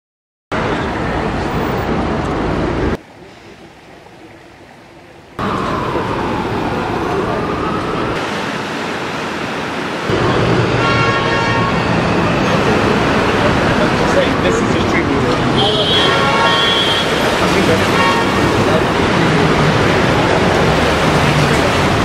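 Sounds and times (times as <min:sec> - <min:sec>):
street traffic noise: 0:00.5 - 0:22.0.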